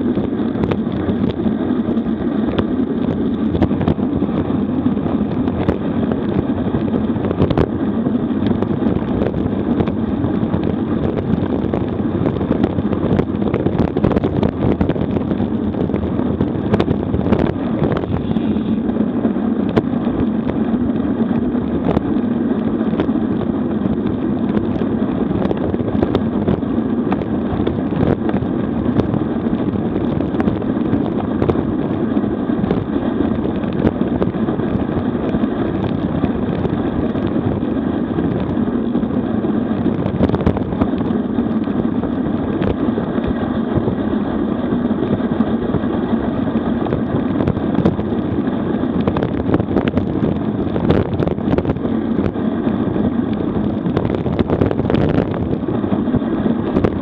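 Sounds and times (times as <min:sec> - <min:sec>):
bike tyres humming on asphalt: 0:00.0 - 0:57.0
wind buffeting microphone: 0:00.0 - 0:57.0.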